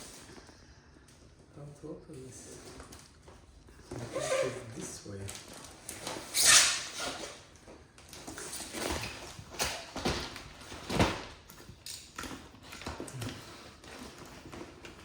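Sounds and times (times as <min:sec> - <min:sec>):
packaging scraping and rustling: 0:02.4 - 0:15.0.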